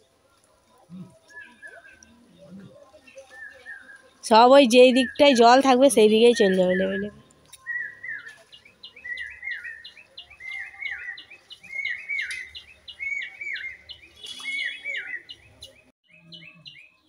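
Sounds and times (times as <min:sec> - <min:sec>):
bird singing: 0:00.9 - 0:17.0.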